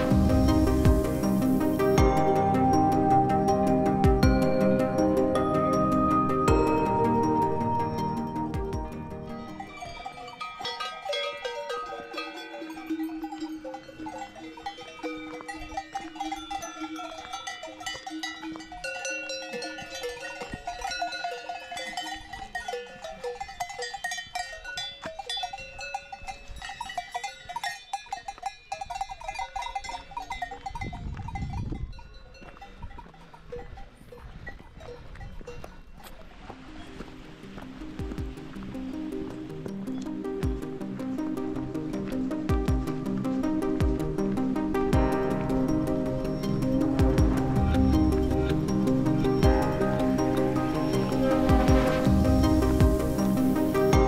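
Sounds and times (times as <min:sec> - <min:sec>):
cowbells clanking: 0:04.2 - 0:36.9, 0:38.1 - 0:54.0.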